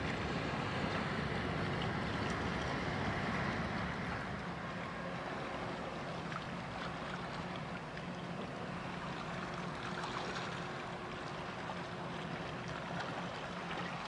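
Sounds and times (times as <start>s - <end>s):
boat engine humming: 0.0s - 14.0s
water wash: 0.0s - 14.0s.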